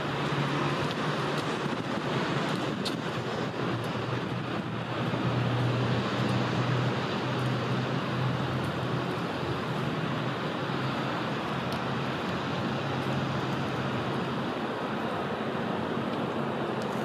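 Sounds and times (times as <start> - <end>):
distant road traffic rumble: 0.0 - 17.0.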